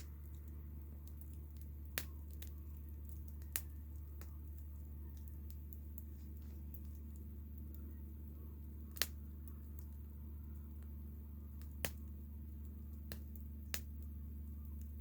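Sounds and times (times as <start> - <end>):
low steady hum: 0.0 - 15.0
wood fire crackling: 0.0 - 15.0.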